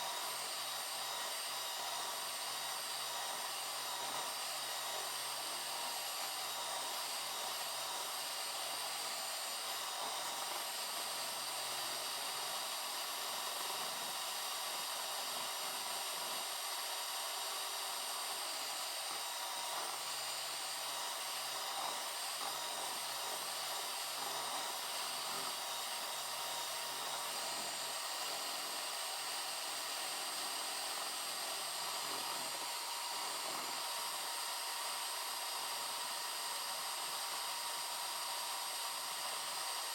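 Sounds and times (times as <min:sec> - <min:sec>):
small electric motor whirring: 0:00.0 - 0:39.9.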